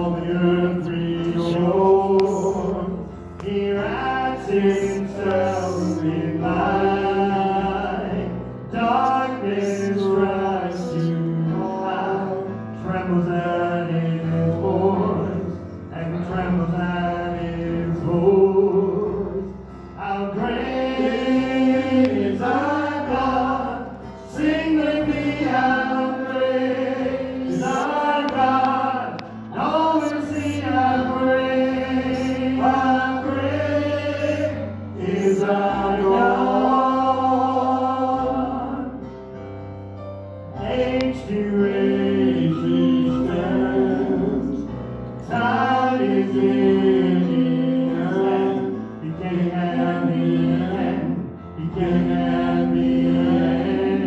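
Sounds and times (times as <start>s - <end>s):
gospel singing: 0.0s - 54.0s
low keyboard notes: 0.0s - 54.0s.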